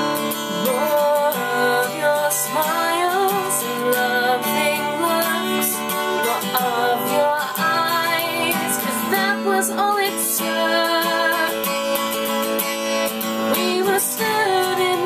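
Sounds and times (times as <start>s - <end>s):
woman singing: 0.0s - 12.2s, 13.3s - 15.0s
acoustic guitar: 0.0s - 15.0s.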